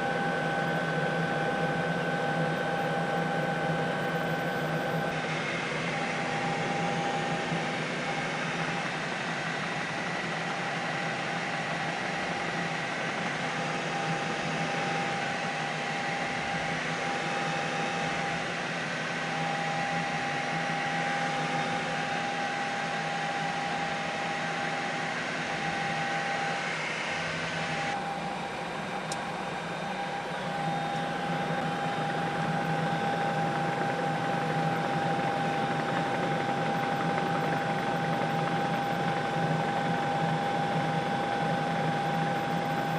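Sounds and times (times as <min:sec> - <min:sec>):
helicopter cabin drone: 0:00.0 - 0:42.9.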